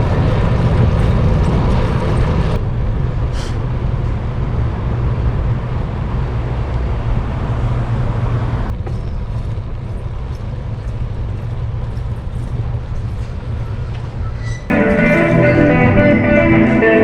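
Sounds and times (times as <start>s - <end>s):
wind rumble on microphone: 0.0s - 14.3s
street traffic: 0.0s - 17.0s.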